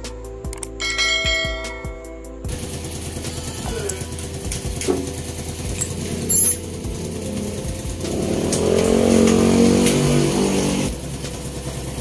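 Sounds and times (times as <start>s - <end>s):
motorcycle engine running: 1.3s - 12.0s.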